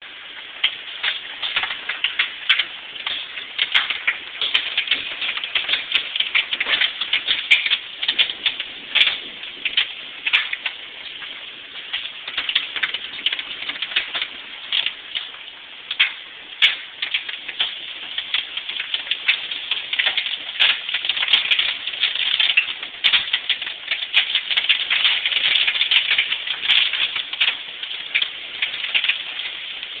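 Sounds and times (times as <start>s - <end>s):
rain pattering hard: 0.0s - 30.0s.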